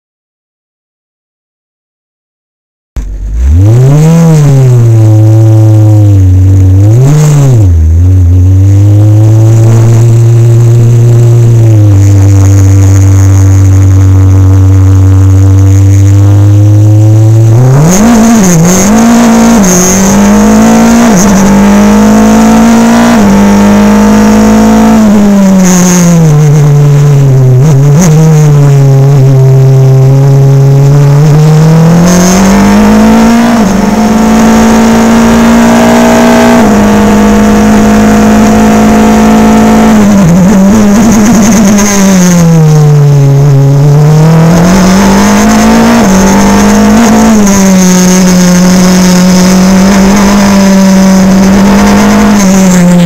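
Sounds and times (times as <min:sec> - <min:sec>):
loud racing car engine: 0:03.0 - 0:53.0.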